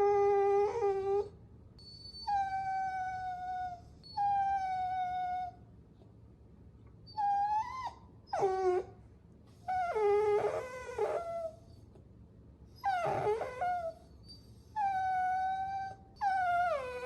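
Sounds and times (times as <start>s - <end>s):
puppies whining: 0.0s - 5.6s, 7.1s - 8.9s, 9.6s - 11.8s, 12.8s - 17.0s.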